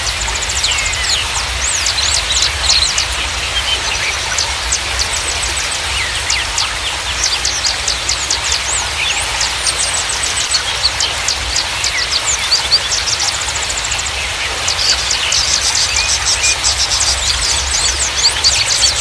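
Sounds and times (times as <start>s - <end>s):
flowing water: 0.0s - 19.0s
songbirds chirping: 0.0s - 19.0s.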